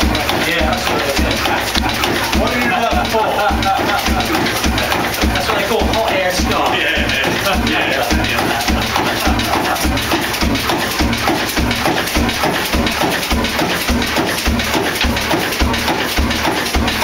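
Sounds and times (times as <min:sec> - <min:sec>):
machinery clatter: 0:00.0 - 0:17.0
oil engine running slowly: 0:00.0 - 0:17.0.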